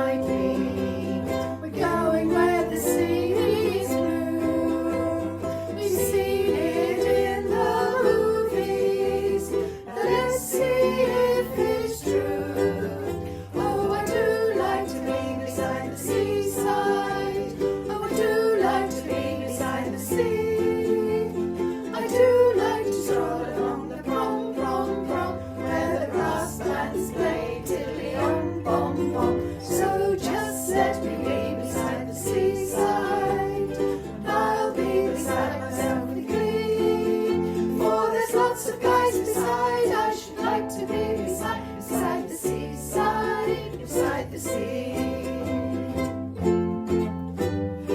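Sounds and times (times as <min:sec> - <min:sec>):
ukulele strumming: 0:00.0 - 0:47.9
upbeat acoustic song: 0:00.0 - 0:47.9.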